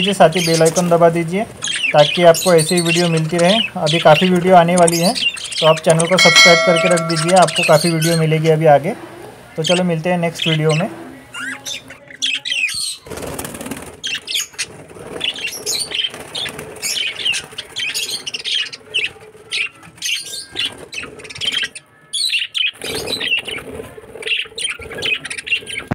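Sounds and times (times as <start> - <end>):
budgerigars chirping and warbling: 0.0 - 6.8, 9.6 - 13.1, 14.0 - 25.9.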